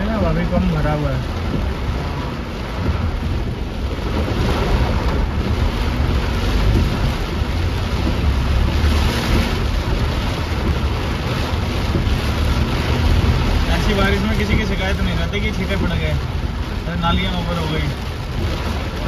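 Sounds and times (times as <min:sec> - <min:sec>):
car rumbling on wet road: 0:00.0 - 0:19.0
heavy rain on car roof: 0:00.0 - 0:19.0.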